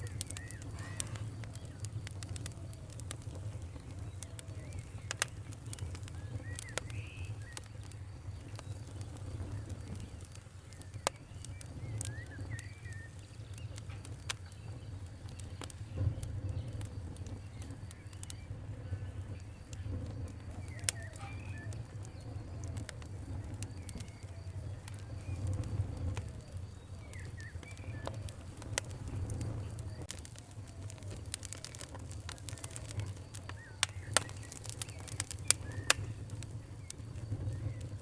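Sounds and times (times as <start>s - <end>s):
faint bird calls: 0.0s - 38.0s
wood fire crackling: 0.0s - 38.0s.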